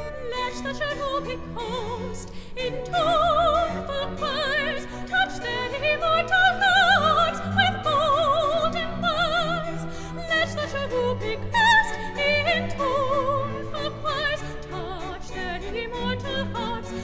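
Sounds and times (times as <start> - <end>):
orchestra playing: 0.0 - 17.0
soprano singing with vibrato: 0.0 - 17.0.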